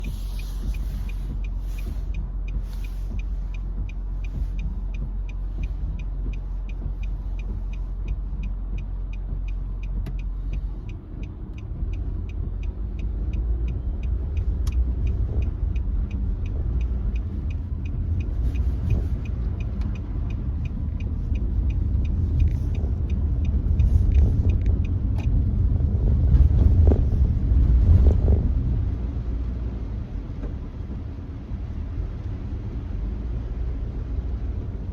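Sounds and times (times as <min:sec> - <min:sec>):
rapid regular ticking: 0:00.0 - 0:29.9
car driving on wet road: 0:00.0 - 0:34.9.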